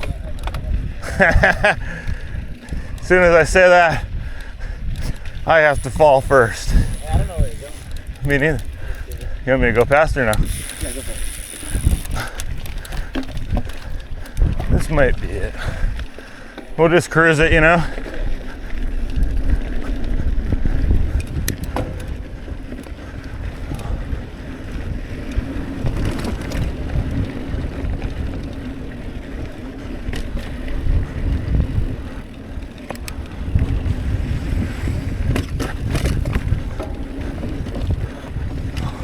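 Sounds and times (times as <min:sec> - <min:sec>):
bike clicks and rattles: 0:00.0 - 0:39.0
wind rumbling on microphone: 0:00.0 - 0:39.0.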